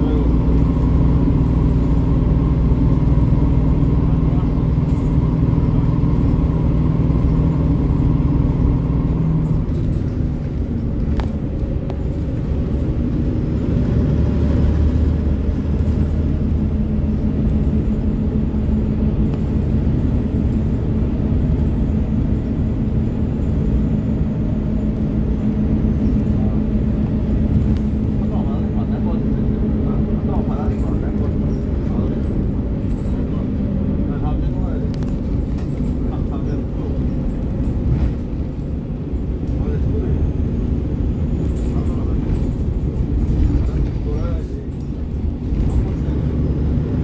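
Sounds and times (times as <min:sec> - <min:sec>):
bus engine drone: 0:00.0 - 0:47.0
road rumble: 0:00.0 - 0:47.0.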